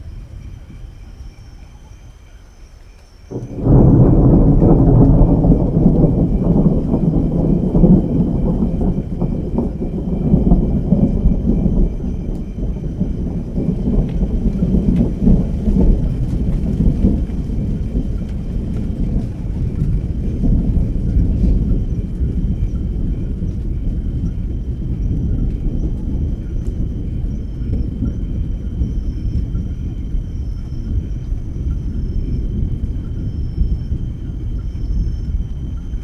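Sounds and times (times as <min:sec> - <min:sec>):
thunder rumbling: 0:00.0 - 0:36.0.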